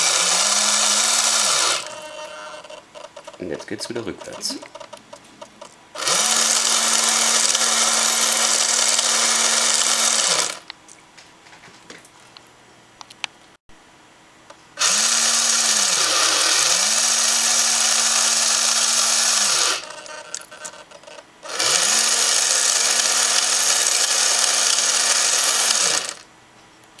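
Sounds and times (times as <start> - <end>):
winch motor and gear whirr: 0.0 - 10.7, 14.8 - 26.2.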